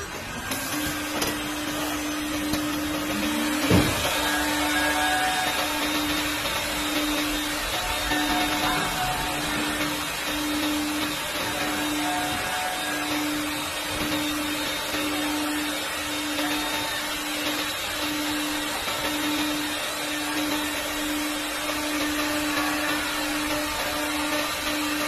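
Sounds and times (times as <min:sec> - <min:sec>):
machine hissing and humming: 0:00.0 - 0:25.0.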